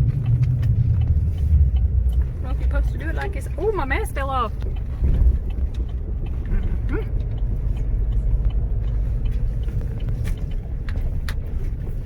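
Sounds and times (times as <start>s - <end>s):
motor vehicle low rumble: 0.0s - 12.0s.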